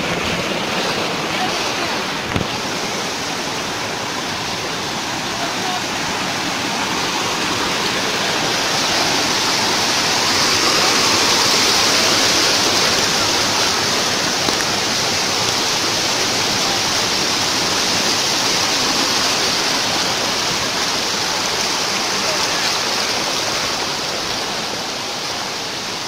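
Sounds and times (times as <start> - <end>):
waterfall splashing over rocks: 0.0 - 26.0.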